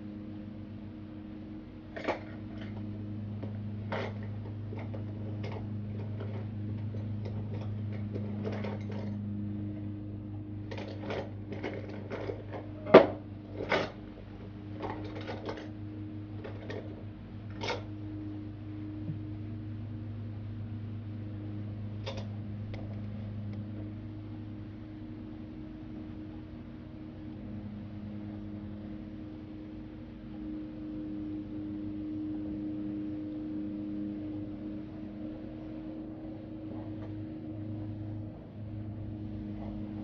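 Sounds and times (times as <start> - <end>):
low electrical hum: 0.0 - 40.0.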